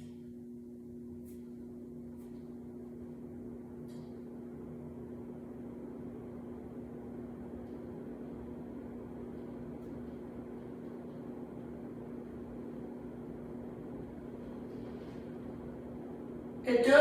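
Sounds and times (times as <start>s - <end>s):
ceiling fan motor hum: 0.0s - 17.0s.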